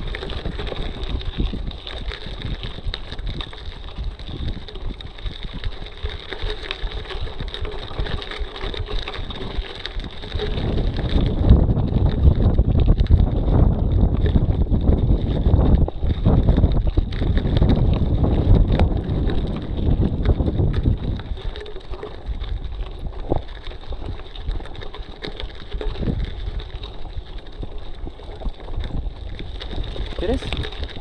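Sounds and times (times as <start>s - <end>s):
stones and bike rattling: 0.0s - 31.0s
tyres rolling on loose gravel: 0.0s - 31.0s
wind buffeting microphone: 0.0s - 31.0s.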